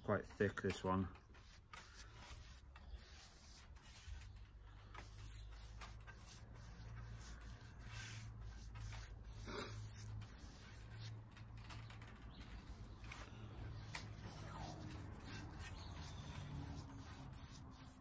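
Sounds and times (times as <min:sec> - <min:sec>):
paintbrush scratching on wood: 0:00.8 - 0:11.2, 0:13.1 - 0:18.0.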